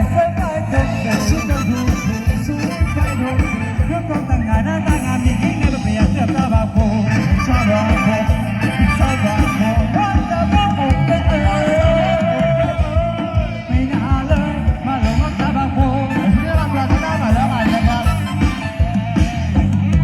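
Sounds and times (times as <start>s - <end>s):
amplified procession band music: 0.0s - 20.0s.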